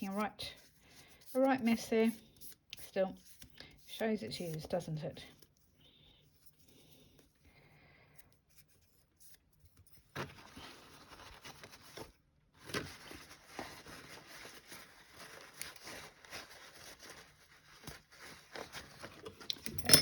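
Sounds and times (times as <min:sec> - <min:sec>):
soft scratching and rustling: 0:00.0 - 0:07.4, 0:08.2 - 0:19.5.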